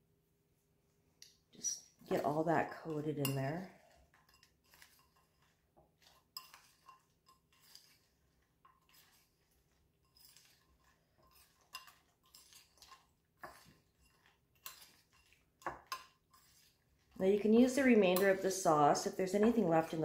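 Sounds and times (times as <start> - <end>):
spoon scraping a bowl: 1.6 - 20.0.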